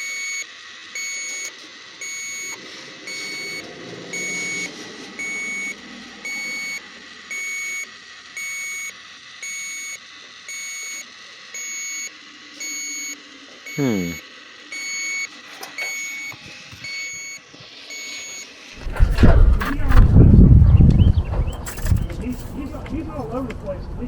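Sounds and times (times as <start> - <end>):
leak detector beeping: 0.0 - 20.0, 20.7 - 22.8.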